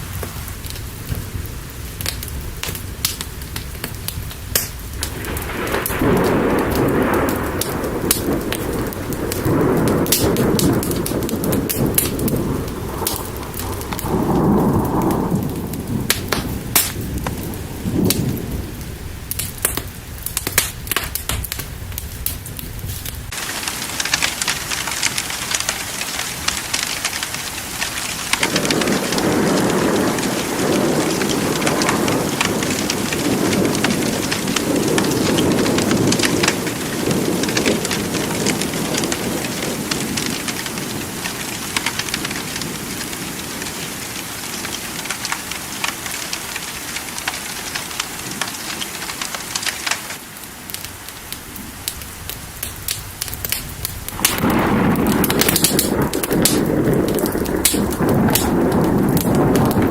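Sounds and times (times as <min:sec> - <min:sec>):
rolling thunder: 0:00.0 - 0:45.6, 0:51.5 - 0:59.9
heavy rain: 0:00.0 - 0:59.9
sharp crackles and pops: 0:00.0 - 0:59.9.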